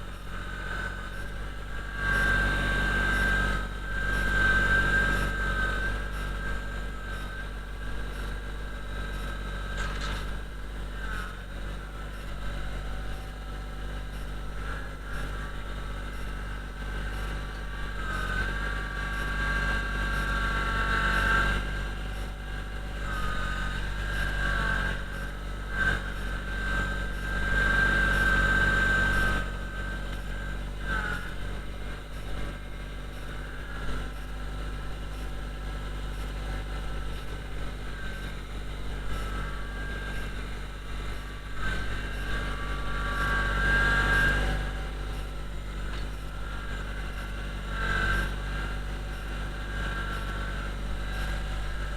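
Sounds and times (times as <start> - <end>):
high whine: 0.0 - 51.9
tractor diesel engine running: 0.0 - 51.9.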